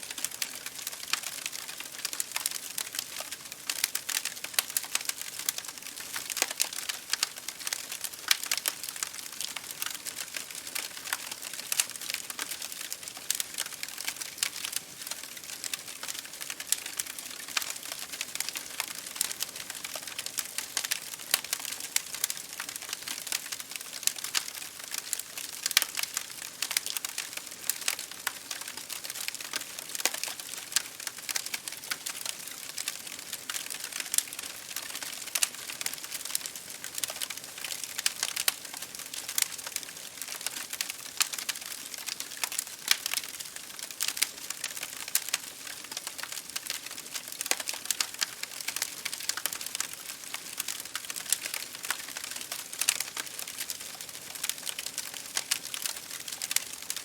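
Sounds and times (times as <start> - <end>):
rain pattering on a window: 0.0 - 57.0
wood fire crackling: 0.0 - 57.0.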